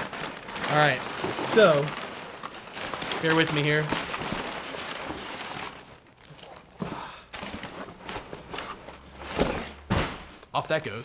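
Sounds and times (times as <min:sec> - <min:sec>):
packing paper crinkling: 0:00.0 - 0:10.5.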